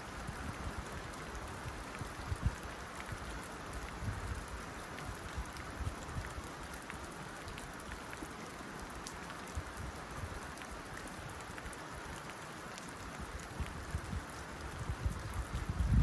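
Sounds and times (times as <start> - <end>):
rain on a tin roof: 0.0 - 16.0.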